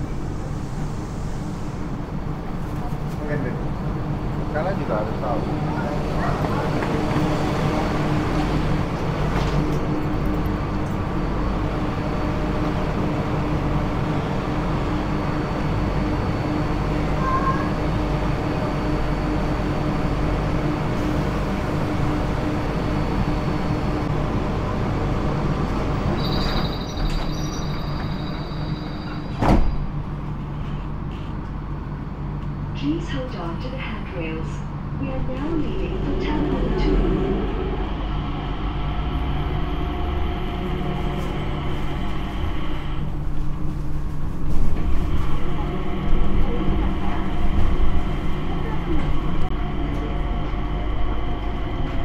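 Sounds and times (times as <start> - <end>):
vehicle engine rumble and whine: 0.0 - 52.0.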